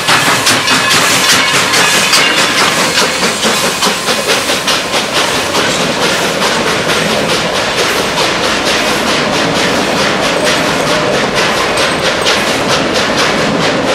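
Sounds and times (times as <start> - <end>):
rhythmic wheel clicks: 0.0 - 13.9
train wheels rumbling on rails: 0.0 - 13.9.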